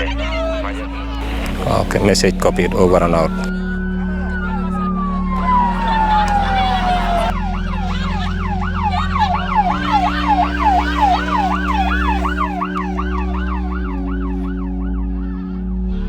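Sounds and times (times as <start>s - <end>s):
emergency vehicle siren yelping: 0.0s - 15.1s.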